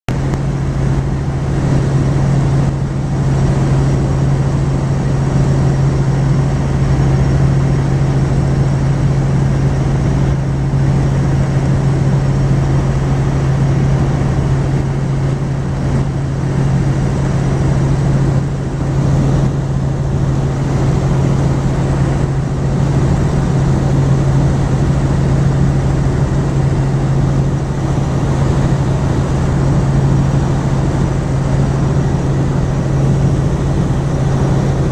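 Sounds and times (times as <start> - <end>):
helicopter rotor and engine drone: 0.1 - 34.9.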